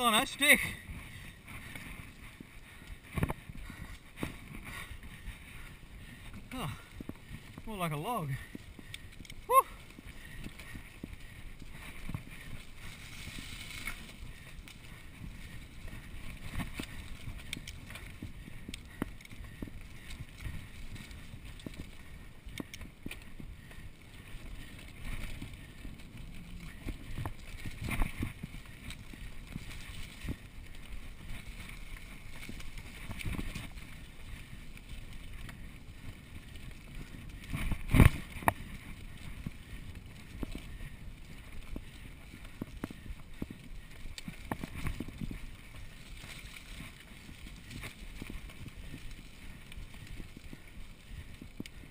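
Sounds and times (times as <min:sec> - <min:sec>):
bike rattling over bumps: 0:00.0 - 0:51.9
bike tyres rolling over dirt: 0:00.0 - 0:51.9.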